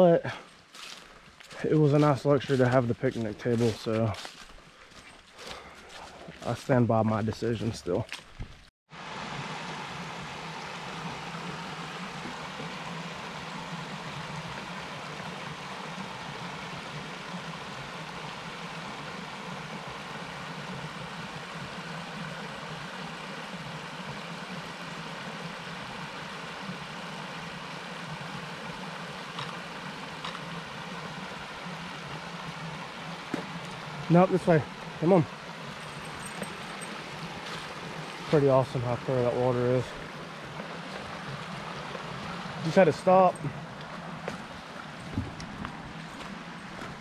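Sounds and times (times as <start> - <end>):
water rushing over rocks: 8.9 - 47.0.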